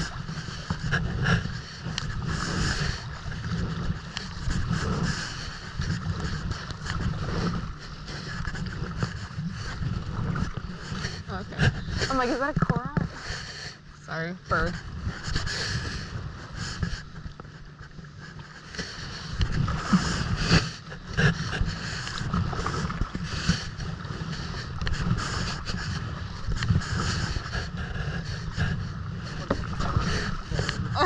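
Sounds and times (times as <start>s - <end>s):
paddle splashing water: 0.0s - 31.0s
wind rumble on microphone: 0.0s - 31.0s.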